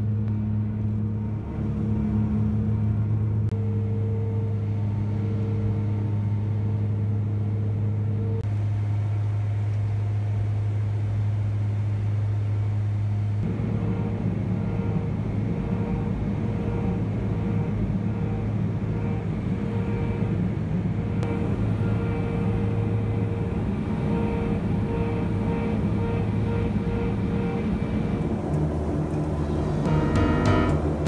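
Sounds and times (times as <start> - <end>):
airliner cabin engine drone: 0.0 - 31.0.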